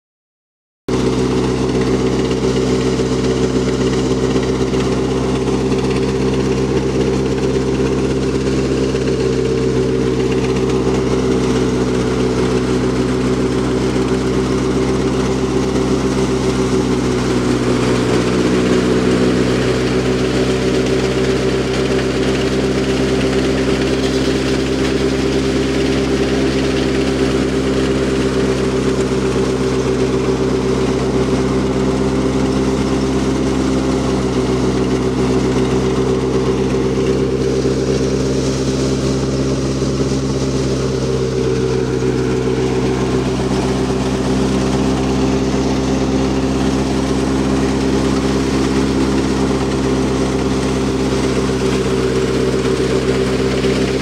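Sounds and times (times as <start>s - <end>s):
threshing machine drone: 0.9s - 54.0s.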